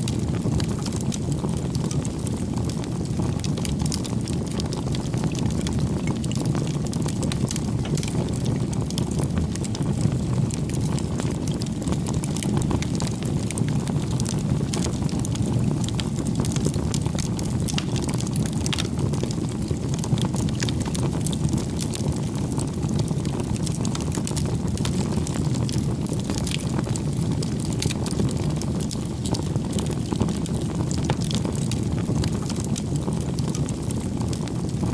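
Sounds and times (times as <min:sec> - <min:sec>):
fire crackling and popping: 0:00.0 - 0:34.9
fire low rumble: 0:00.0 - 0:34.9.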